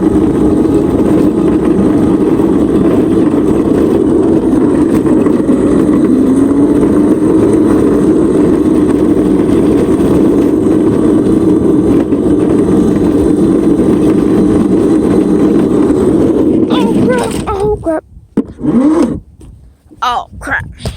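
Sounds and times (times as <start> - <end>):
electric motor hum: 0.0 - 17.9
riding noise rush: 0.0 - 19.3.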